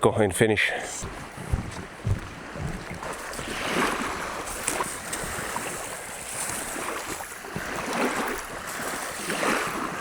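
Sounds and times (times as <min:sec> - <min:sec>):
wind: 0:00.0 - 0:10.0
small waves washing onto sand: 0:01.0 - 0:10.0.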